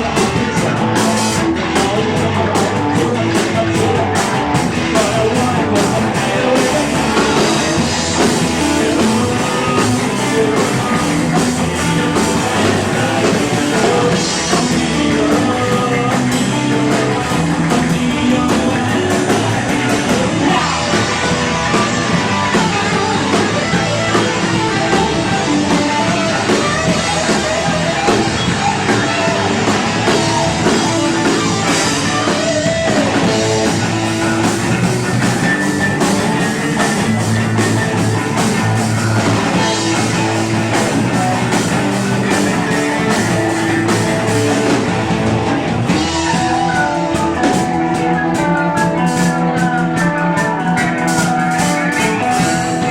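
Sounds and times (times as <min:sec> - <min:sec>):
person singing: 0:00.0 - 0:44.9, 0:45.9 - 0:52.9
bass guitar: 0:00.0 - 0:52.9
drum kit: 0:00.0 - 0:52.9
electric guitars: 0:00.0 - 0:52.9.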